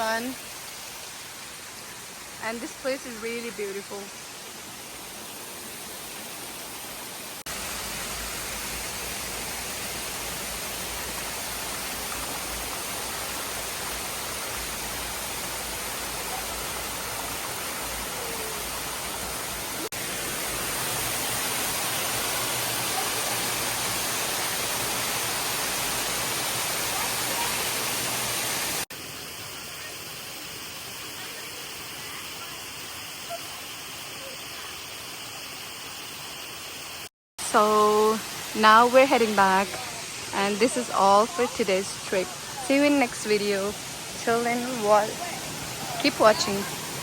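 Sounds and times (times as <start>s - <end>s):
waterfall rushing: 0.0s - 28.9s, 36.9s - 47.0s.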